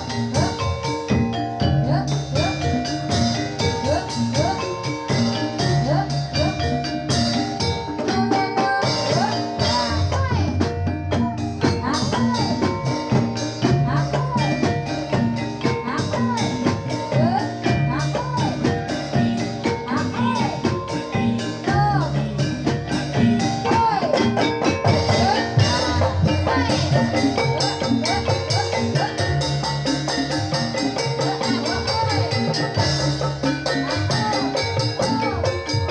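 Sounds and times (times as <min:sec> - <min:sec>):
drums playing rhythmic pattern: 0:00.0 - 0:35.9
metallophones playing: 0:00.0 - 0:35.9.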